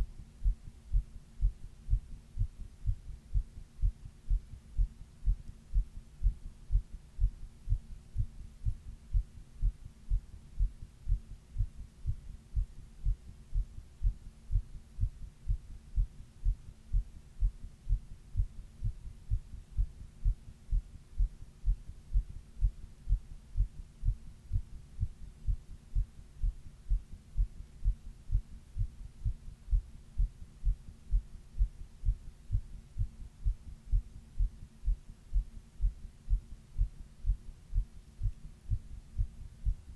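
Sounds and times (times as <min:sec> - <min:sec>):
faint steady hum: 0:00.0 - 0:39.9
heart beating: 0:00.0 - 0:39.9.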